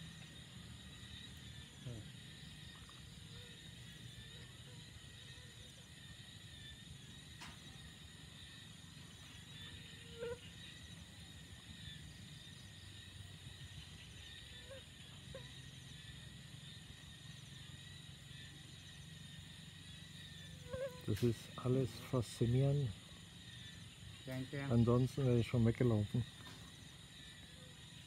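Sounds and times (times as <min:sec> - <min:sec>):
night insects chirring: 0:00.0 - 0:28.0.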